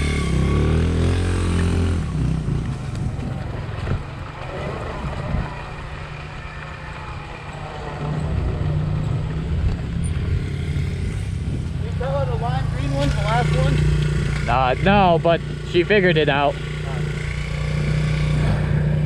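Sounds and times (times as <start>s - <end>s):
dirt bike engine idling: 0.0s - 19.0s.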